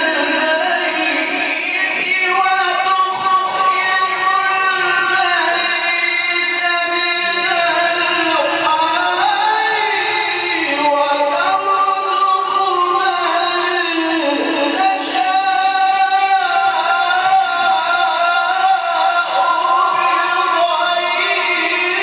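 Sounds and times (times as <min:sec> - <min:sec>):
man chanting melodically: 0:00.0 - 0:22.0.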